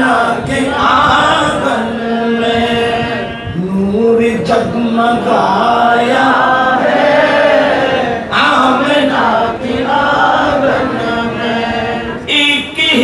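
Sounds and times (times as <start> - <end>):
men chanting unaccompanied: 0.0 - 13.0.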